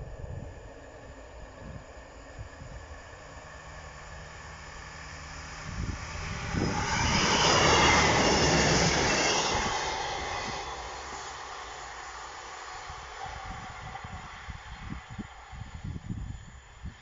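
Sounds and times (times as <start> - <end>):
diesel train passing at speed: 0.0 - 17.0.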